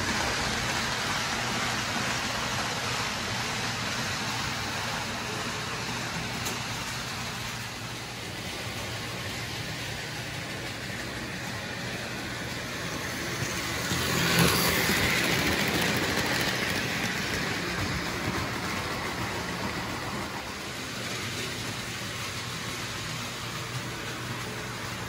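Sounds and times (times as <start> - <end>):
model train motor hum: 0.0 - 25.0.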